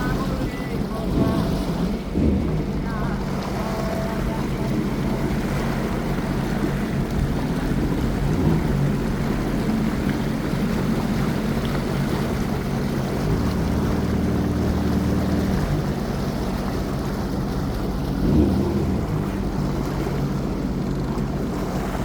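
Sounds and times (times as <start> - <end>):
motorboat engine running: 0.0 - 22.0
water rushing: 0.0 - 22.0
wind: 0.0 - 22.0.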